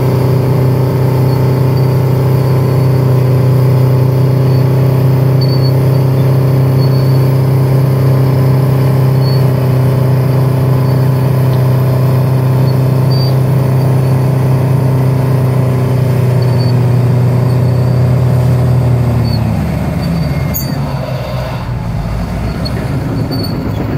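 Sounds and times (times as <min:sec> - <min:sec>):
heavy diesel engines droning: 0:00.0 - 0:23.9.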